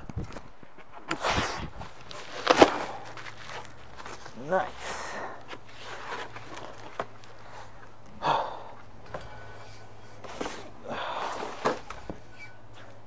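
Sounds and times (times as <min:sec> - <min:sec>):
steady low hum: 0:00.0 - 0:13.0
cardboard and paper rustling: 0:00.1 - 0:08.0, 0:09.0 - 0:13.0.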